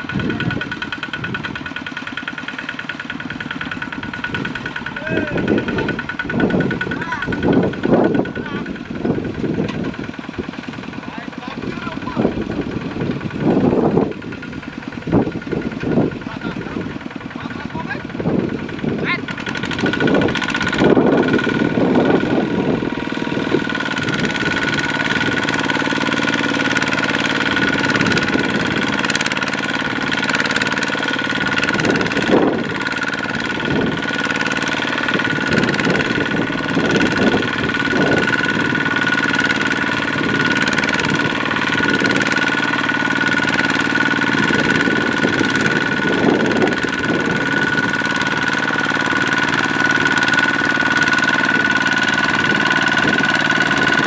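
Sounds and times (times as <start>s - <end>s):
tiller diesel engine running hard: 0.0s - 54.0s.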